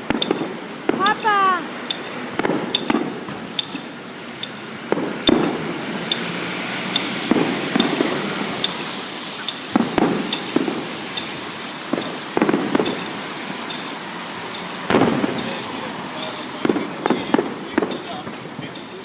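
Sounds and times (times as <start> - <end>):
fireworks bangs and pops: 0.0 - 19.0
fireworks crackling hiss: 0.0 - 19.0.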